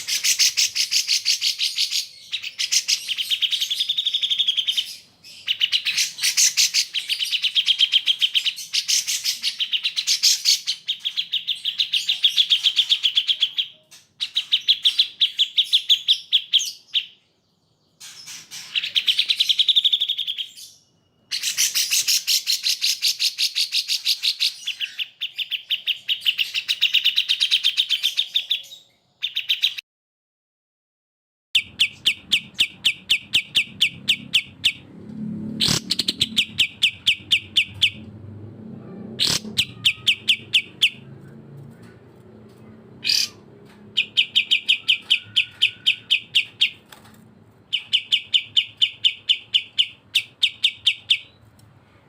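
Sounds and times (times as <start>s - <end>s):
bird high chirping: 0.0s - 29.8s, 31.6s - 51.5s.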